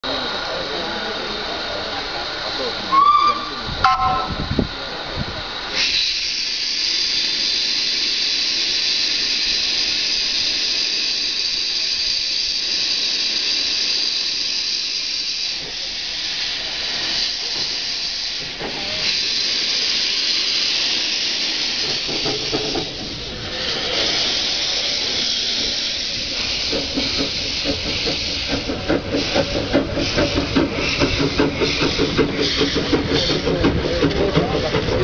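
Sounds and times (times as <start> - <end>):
steam locomotive hissing steam: 0.0 - 35.0.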